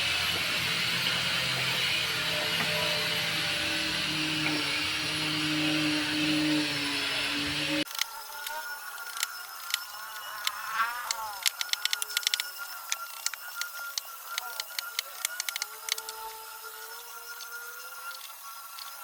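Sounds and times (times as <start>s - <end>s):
woodworking power tool running: 0.0s - 19.0s.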